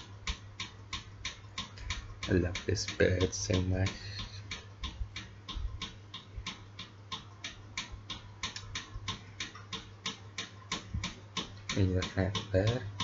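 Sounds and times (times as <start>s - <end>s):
fast even ticking: 0.0s - 13.0s
steady low hum: 0.0s - 13.0s.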